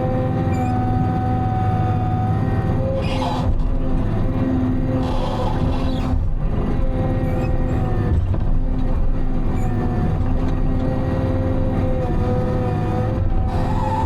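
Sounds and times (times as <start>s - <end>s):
diesel engine droning: 0.0s - 14.0s
steady whine: 0.0s - 14.0s.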